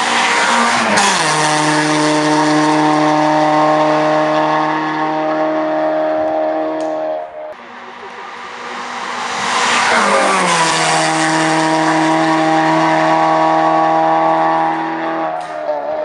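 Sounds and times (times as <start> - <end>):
race car engine passing: 0.0 - 16.0.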